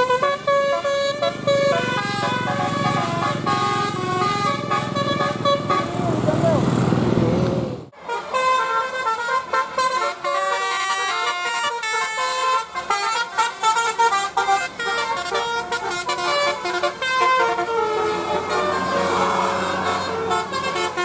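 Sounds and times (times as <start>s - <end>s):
musical bus horn playing melody: 0.0s - 6.3s, 7.9s - 21.0s.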